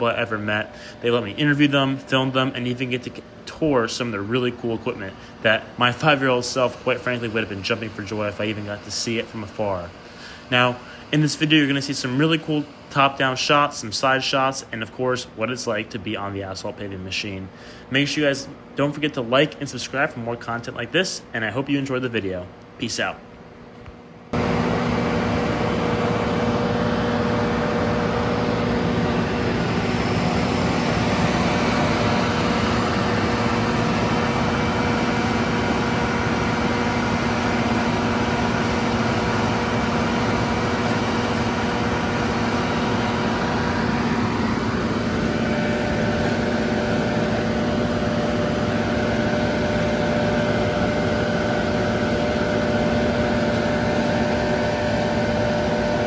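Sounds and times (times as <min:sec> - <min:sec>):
paver diesel engine and machinery: 0:00.0 - 0:56.0.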